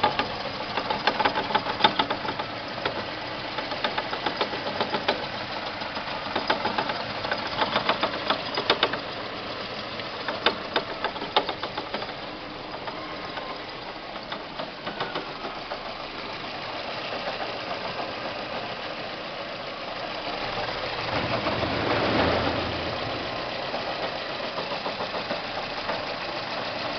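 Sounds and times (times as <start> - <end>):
fast irregular knocking and clicking: 0.0 - 19.0, 22.9 - 26.9
car engine running: 0.0 - 26.9.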